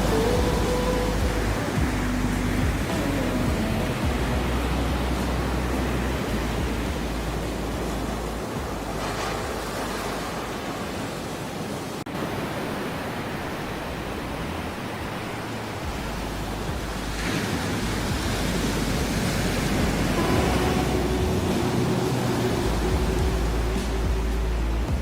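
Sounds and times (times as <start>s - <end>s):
ocean surf: 0.0s - 25.0s.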